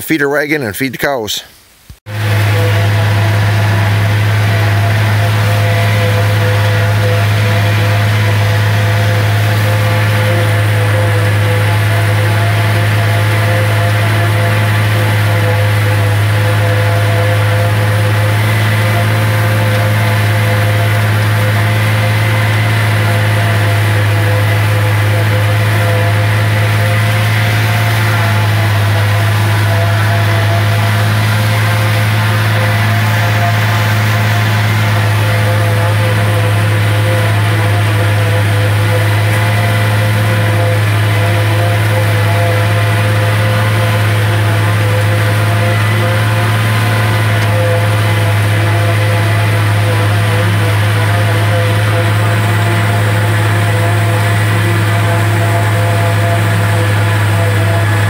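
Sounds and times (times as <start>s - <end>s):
forage harvester chopper hum: 0.0s - 58.0s
tractor diesel engine under load: 2.1s - 58.0s.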